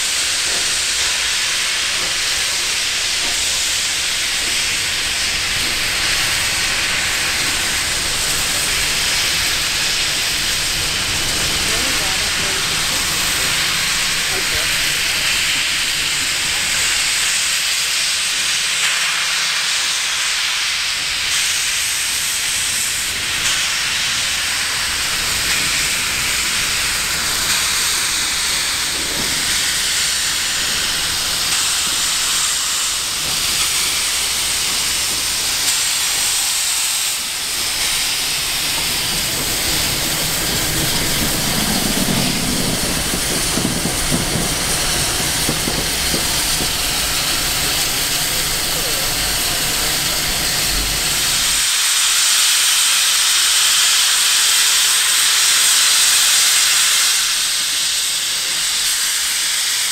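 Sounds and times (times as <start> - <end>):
steam hissing: 0.0 - 59.9
steam locomotive rumble: 0.0 - 59.9.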